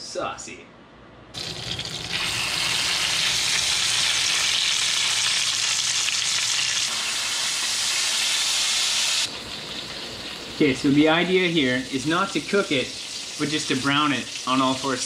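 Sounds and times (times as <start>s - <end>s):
meat sizzling in a pan: 1.4s - 15.0s.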